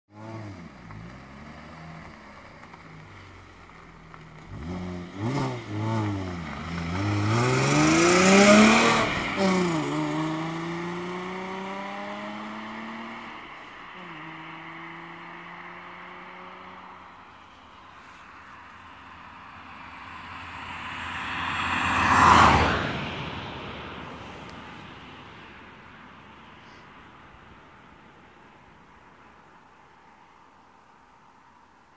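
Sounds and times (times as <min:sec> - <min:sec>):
car engine revving and passing: 0:00.1 - 0:26.0.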